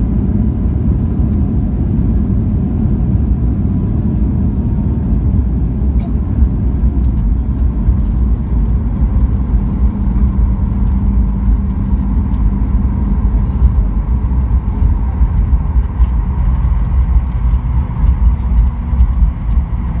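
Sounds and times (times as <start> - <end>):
faint steady whine: 0.0 - 20.0
jet engine rumble in cabin: 0.0 - 20.0.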